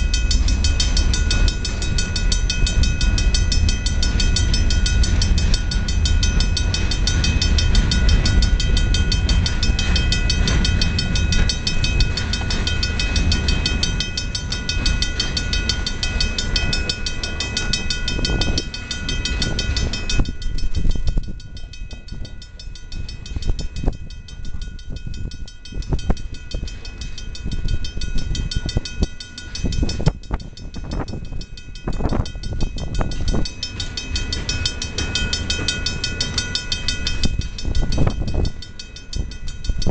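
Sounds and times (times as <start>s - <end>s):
steady high ringing tone: 0.0s - 39.9s.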